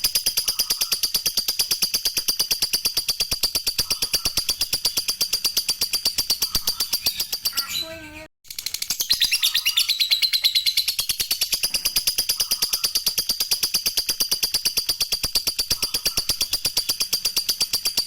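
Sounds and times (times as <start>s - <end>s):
lovebird chattering trill: 0.0s - 18.0s.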